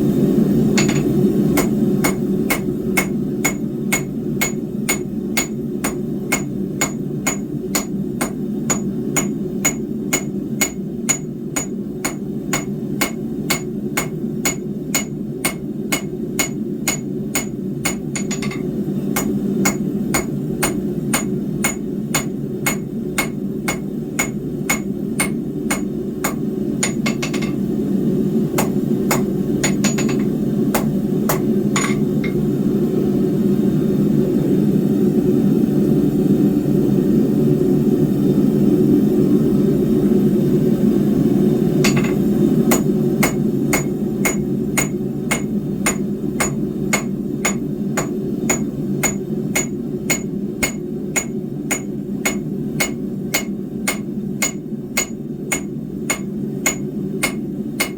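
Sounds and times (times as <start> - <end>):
hammer striking steel on anvil: 0.8 - 27.6, 28.6 - 32.5, 41.8 - 57.9.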